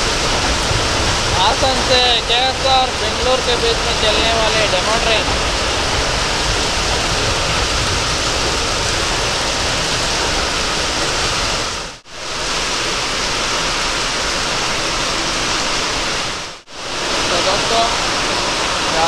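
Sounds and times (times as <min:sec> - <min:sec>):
heavy rain on roof: 0:00.0 - 0:19.0
train rumbling past: 0:00.0 - 0:19.0.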